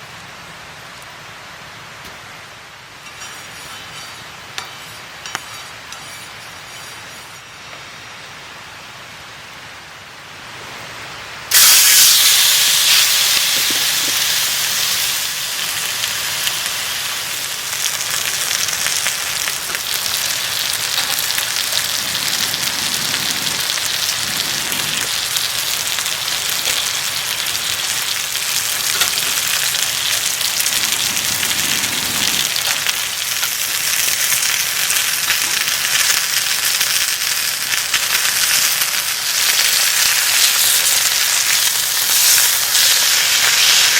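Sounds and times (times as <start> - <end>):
food sizzling in hot oil: 3.0 - 8.3, 11.5 - 43.9.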